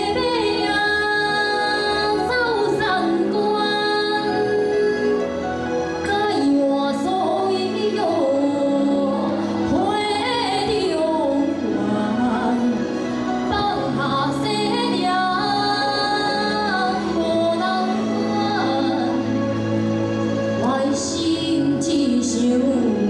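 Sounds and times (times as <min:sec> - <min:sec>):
woman singing into microphone: 0:00.0 - 0:23.0.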